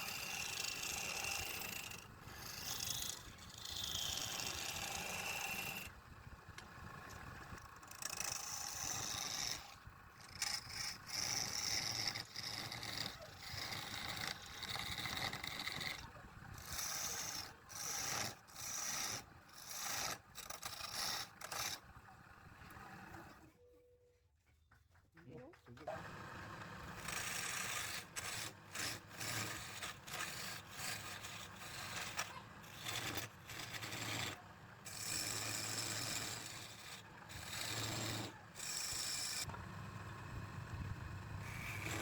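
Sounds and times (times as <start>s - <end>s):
tool scraping wood: 0.0s - 6.0s, 6.6s - 23.4s, 25.9s - 39.5s, 41.4s - 42.0s.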